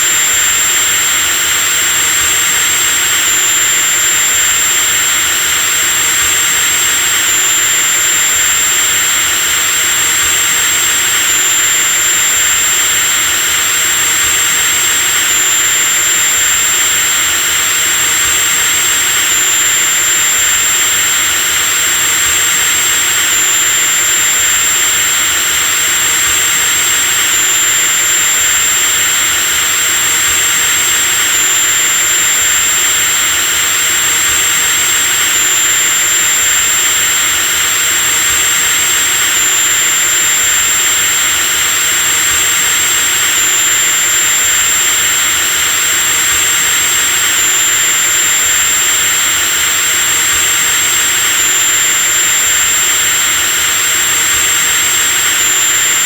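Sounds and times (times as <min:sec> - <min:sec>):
electric drill motor whining: 0:00.0 - 0:56.0.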